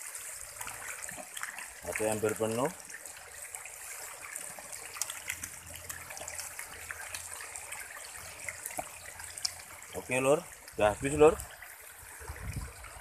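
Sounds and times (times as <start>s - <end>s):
water pouring into pond: 0.0s - 13.0s.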